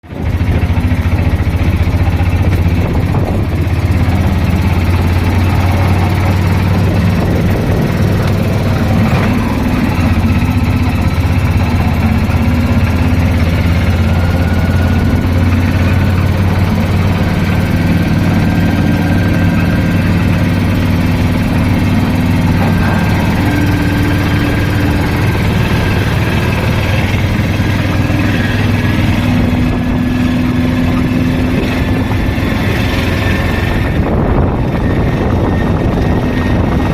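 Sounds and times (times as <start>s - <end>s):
engine running steadily: 0.0s - 36.9s.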